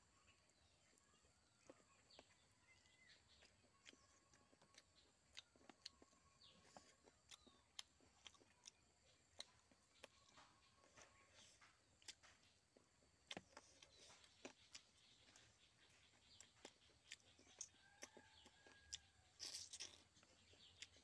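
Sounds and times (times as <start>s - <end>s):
faint bird chirps: 0.0s - 21.0s
soft chewing clicks: 0.1s - 21.0s.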